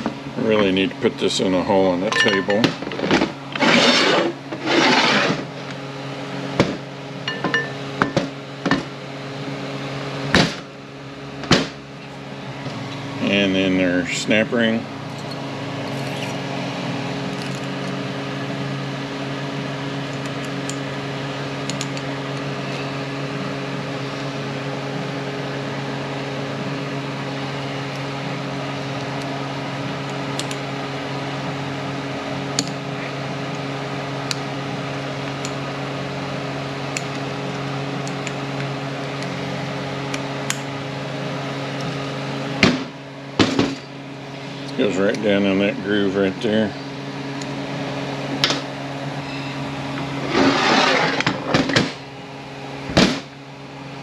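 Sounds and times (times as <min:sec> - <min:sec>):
fan mechanical hum: 0:00.0 - 0:54.0.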